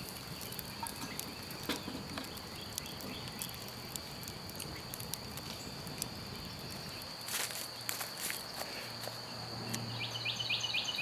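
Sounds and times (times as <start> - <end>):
campfire crackling and popping: 0.0 - 11.0
insect drone: 0.0 - 11.0.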